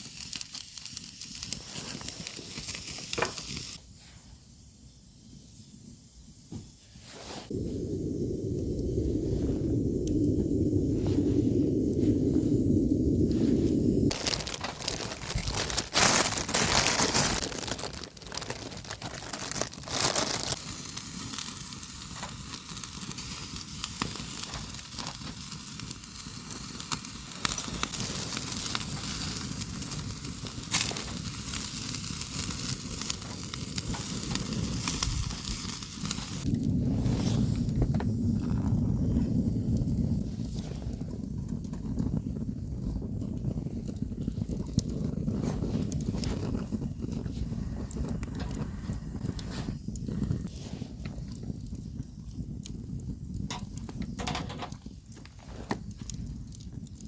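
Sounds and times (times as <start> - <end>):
food sizzling with crackles: 0.0 - 4.2, 7.0 - 57.0.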